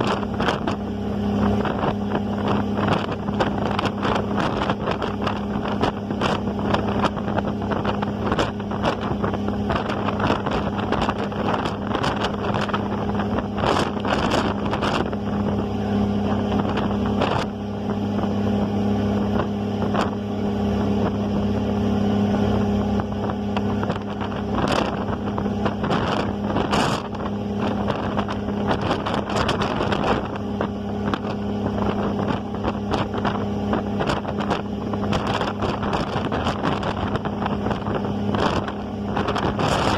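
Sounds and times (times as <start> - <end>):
ferry engine droning: 0.0 - 39.9
wind buffeting microphone: 0.0 - 39.9.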